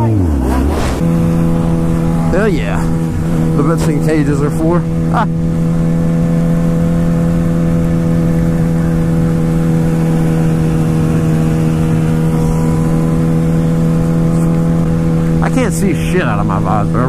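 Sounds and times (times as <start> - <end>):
motorcycle engine cruising: 0.0 - 17.0
wind rumbling on microphone: 0.4 - 15.5.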